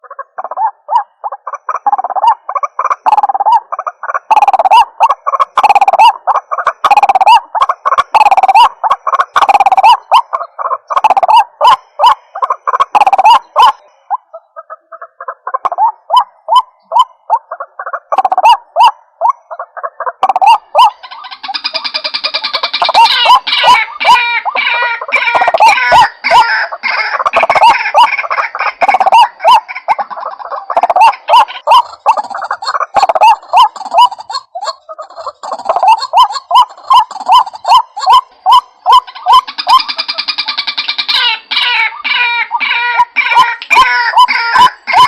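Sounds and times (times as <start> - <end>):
waterhen calling repeated notes: 0.0 - 45.0.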